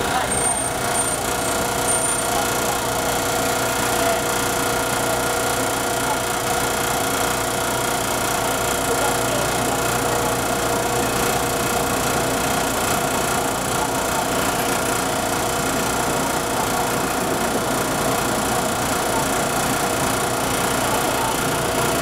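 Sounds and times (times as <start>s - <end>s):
diesel locomotive idling: 0.0s - 22.0s.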